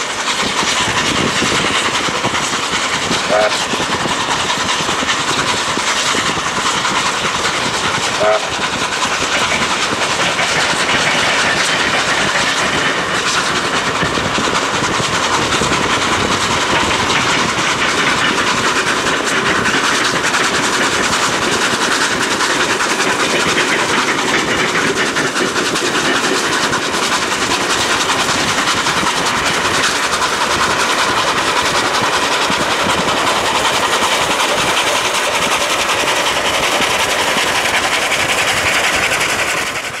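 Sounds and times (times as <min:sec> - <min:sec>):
steam train running: 0:00.0 - 0:40.0.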